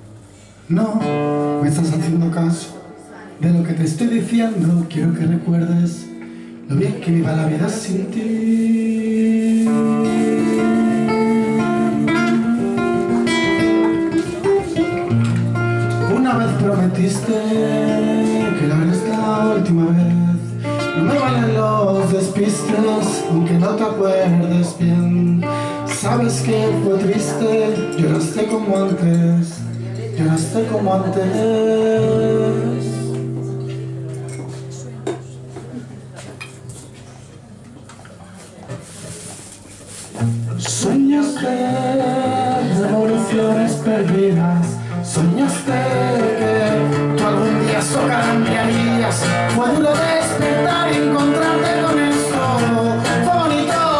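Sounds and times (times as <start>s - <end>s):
acoustic guitar: 0.0s - 53.9s
man singing: 0.7s - 34.2s, 40.5s - 53.9s.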